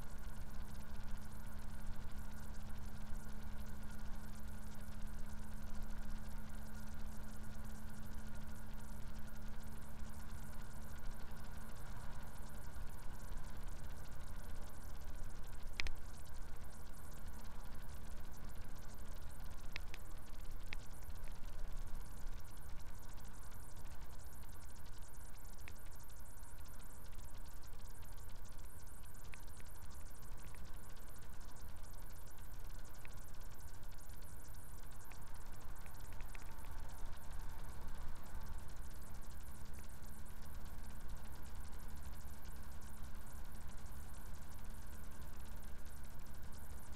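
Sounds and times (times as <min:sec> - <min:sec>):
sharp ticks: 0:09.1 - 0:46.9.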